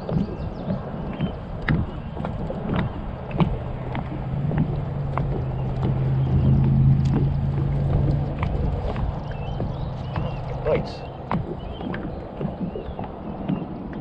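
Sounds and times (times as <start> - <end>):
low steady hum: 0.0 - 14.0
water slapping kayak hull: 0.0 - 14.0.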